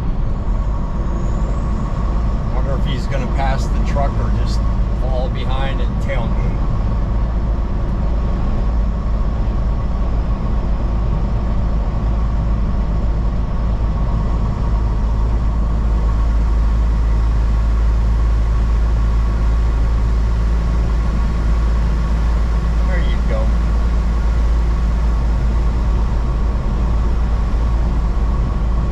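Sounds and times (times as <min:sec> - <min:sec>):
road noise: 0:00.0 - 0:28.9
truck engine drone: 0:00.0 - 0:28.9.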